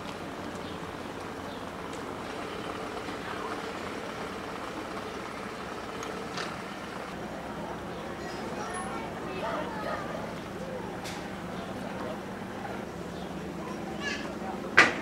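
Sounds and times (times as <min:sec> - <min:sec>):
faint voices: 0:00.0 - 0:15.0
motorboat engines humming: 0:00.0 - 0:15.0.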